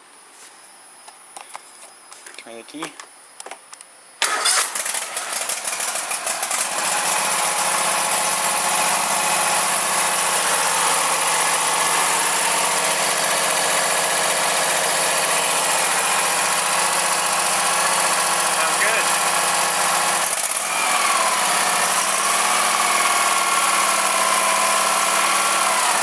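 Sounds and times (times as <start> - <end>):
lawn tractor engine starting and running: 4.2 - 26.0.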